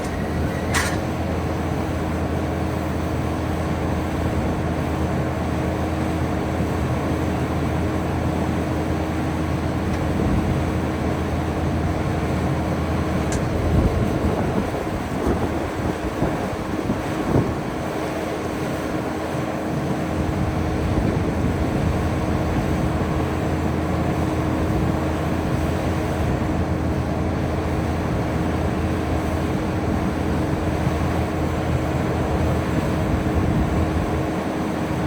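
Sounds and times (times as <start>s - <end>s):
heavy equipment engine running: 0.0s - 35.0s.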